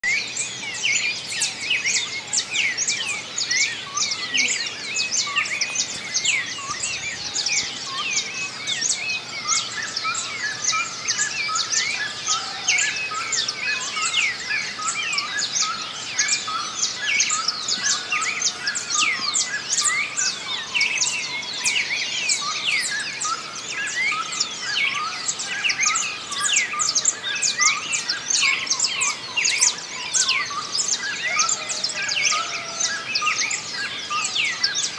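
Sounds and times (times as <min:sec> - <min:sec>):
songbirds singing and chirping: 0:00.0 - 0:34.9.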